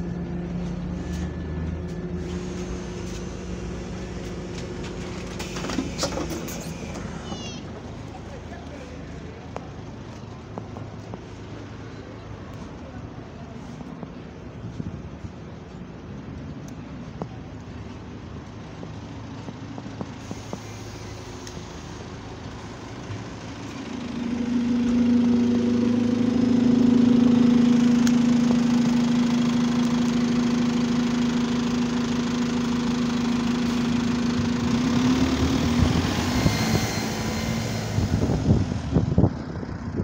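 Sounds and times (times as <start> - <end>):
bus engine idling: 0.0 - 40.0.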